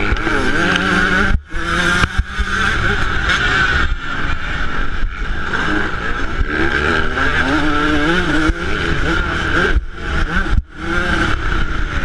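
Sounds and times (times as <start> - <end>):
two-stroke motocross engine revving: 0.0 - 12.0.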